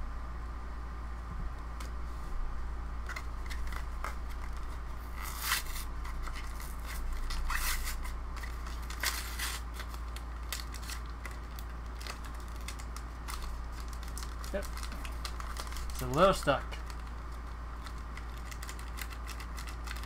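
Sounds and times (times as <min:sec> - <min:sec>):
foil pack crinkling: 0:03.1 - 0:20.0
foil tearing: 0:03.5 - 0:20.0.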